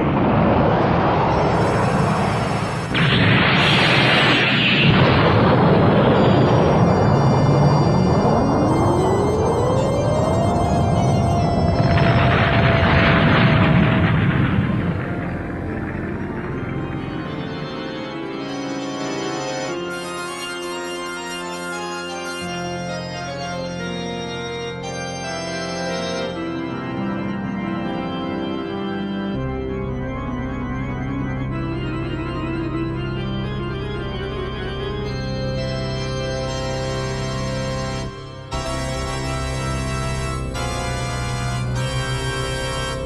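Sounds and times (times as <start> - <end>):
soundtrack music with held chords: 0.0 - 43.0.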